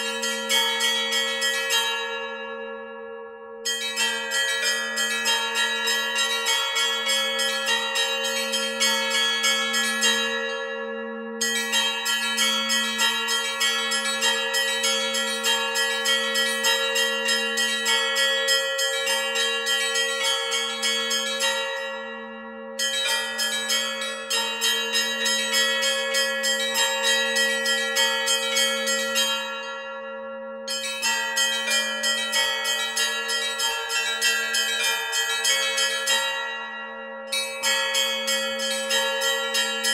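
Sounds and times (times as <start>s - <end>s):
hum of large bells: 0.0s - 39.9s.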